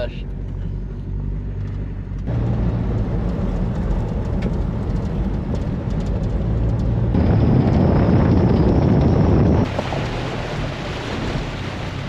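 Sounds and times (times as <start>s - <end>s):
tyres on gravel road: 0.0s - 12.0s
vehicle engine hum: 0.0s - 12.0s.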